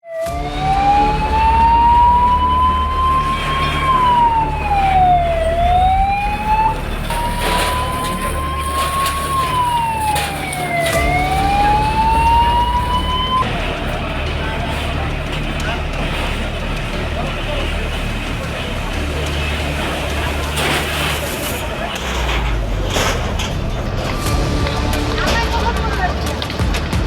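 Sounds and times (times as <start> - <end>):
fire engine siren wailing: 0.0 - 26.9
low engine hum: 0.3 - 27.0.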